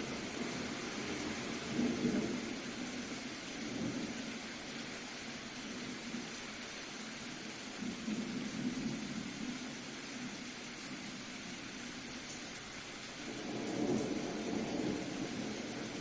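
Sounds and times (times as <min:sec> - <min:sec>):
soft steady rain: 0:00.0 - 0:16.0.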